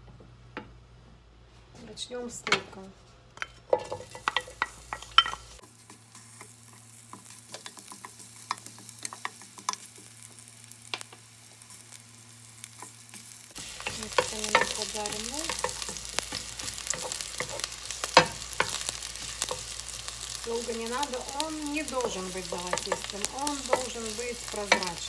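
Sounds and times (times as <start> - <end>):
onion sizzling in oil: 3.6 - 25.0.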